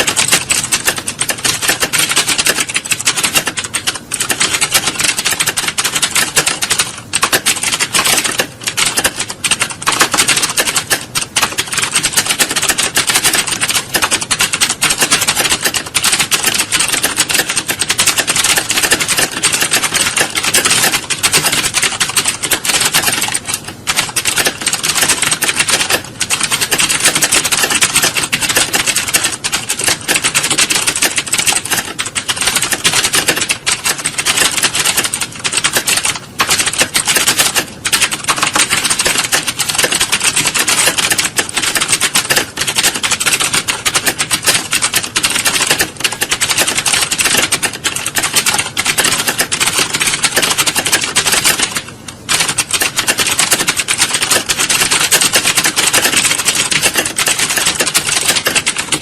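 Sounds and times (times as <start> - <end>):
keyboard typing clatter: 0.0 - 59.0.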